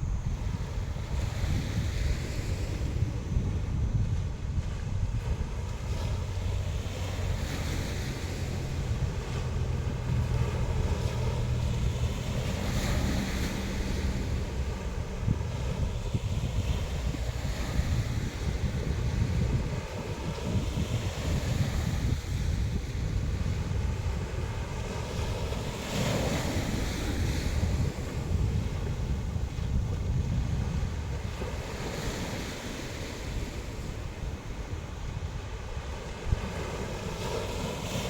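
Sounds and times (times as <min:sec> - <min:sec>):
sea surf washing in: 0:00.0 - 0:38.0
wave breaking: 0:00.0 - 0:38.0
wind buffeting microphone: 0:00.0 - 0:38.0.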